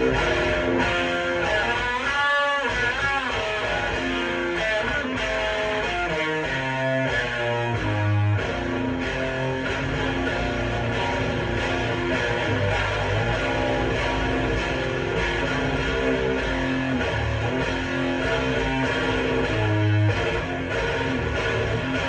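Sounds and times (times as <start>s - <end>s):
heavily distorted electric guitar: 0.0s - 22.0s.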